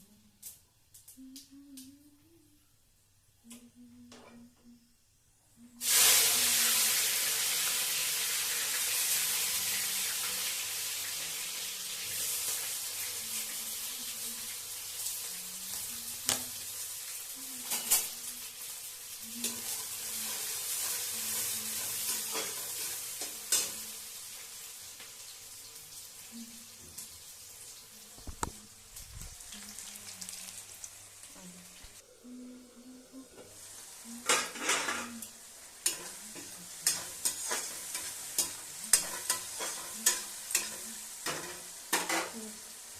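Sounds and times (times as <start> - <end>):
food sizzling in hot oil: 5.8 - 32.0, 33.5 - 42.9.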